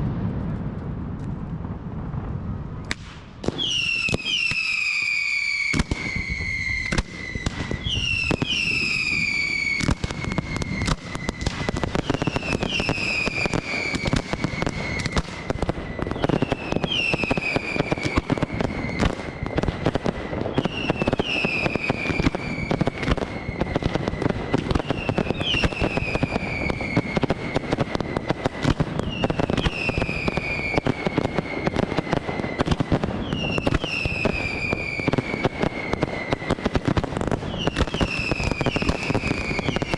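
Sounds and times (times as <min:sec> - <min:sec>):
fireworks crackling and bangs: 0:00.0 - 0:39.9
falling firework whistle: 0:02.9 - 0:39.9.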